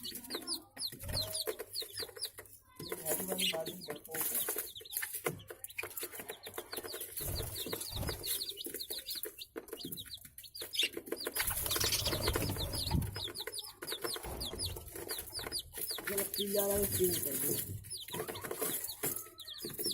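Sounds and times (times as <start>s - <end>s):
budgerigars chirping: 0.0s - 19.9s.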